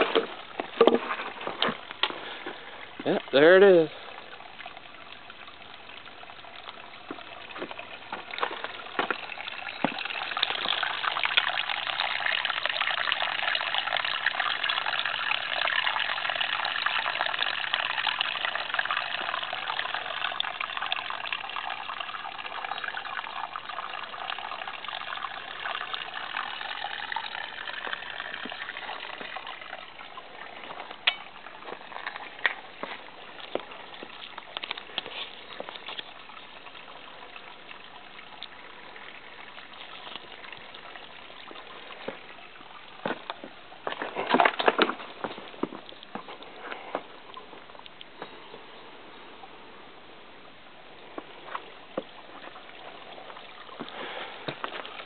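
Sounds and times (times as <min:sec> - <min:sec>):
brook trickling over rocks: 0:00.0 - 0:55.0.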